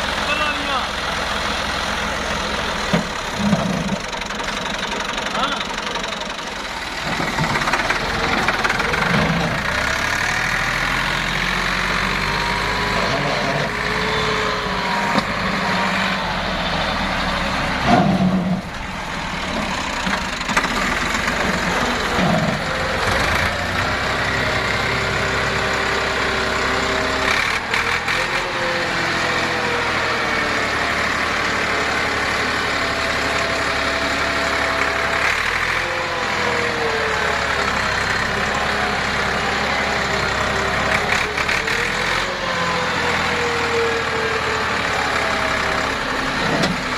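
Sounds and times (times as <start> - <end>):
tractor engine revving: 0.0 - 46.9.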